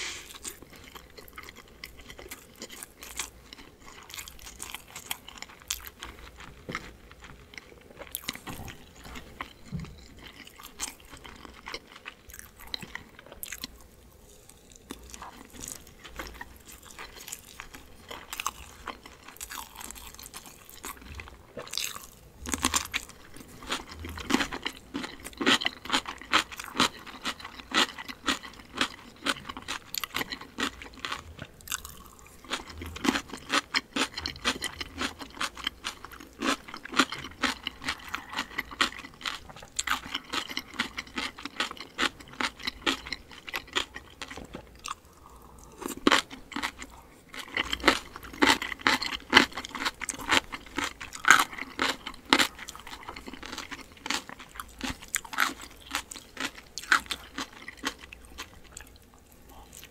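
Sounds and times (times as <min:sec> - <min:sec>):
crisp wet crunching chewing: 0:00.3 - 0:59.9.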